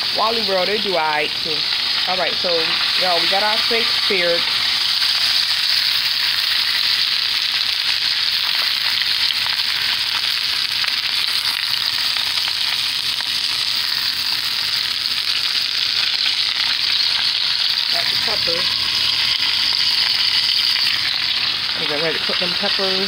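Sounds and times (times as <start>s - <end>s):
oil sizzling and crackling: 0.0s - 23.0s.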